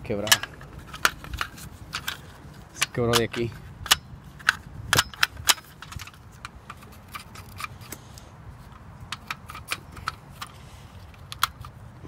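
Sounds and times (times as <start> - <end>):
plastic and metal clicks and rattles: 0.2 - 11.8.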